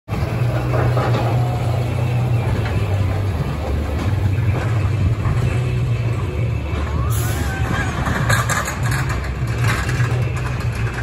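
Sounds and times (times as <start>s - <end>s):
low mechanical rumble: 0.1s - 11.0s.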